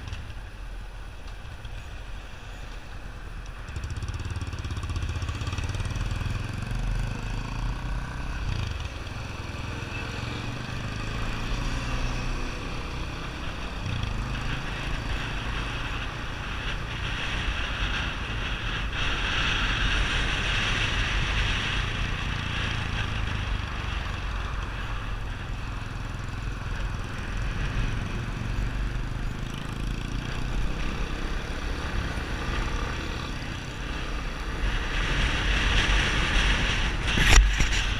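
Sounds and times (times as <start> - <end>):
broad rushing noise: 2.8 - 37.9
motorcycle engine running: 3.3 - 37.9.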